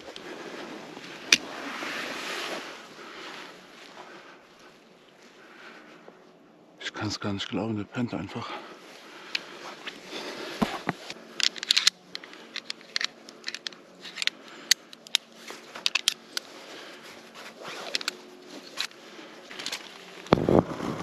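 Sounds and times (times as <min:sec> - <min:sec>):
camping gear crackling and rustling: 0:00.0 - 0:21.0.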